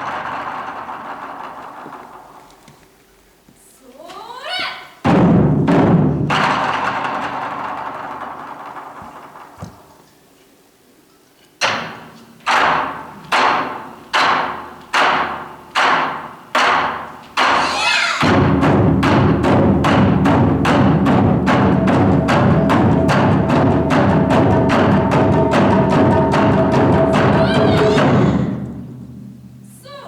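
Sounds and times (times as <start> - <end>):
taiko drums: 0.0 - 2.5, 5.0 - 9.9, 11.6 - 30.0.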